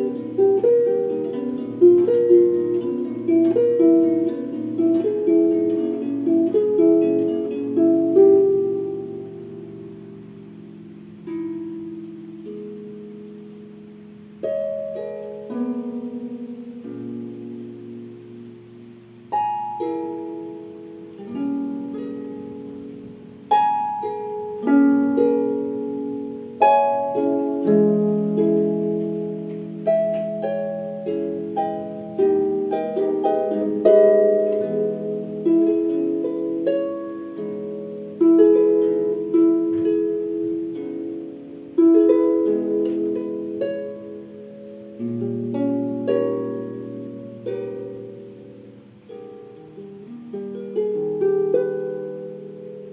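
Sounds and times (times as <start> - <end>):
harp plucked chords and notes: 0.0 - 52.9.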